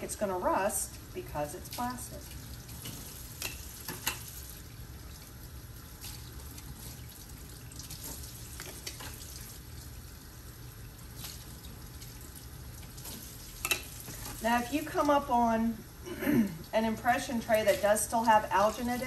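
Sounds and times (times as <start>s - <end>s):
water running from a faucet: 0.5s - 15.8s, 16.7s - 19.0s.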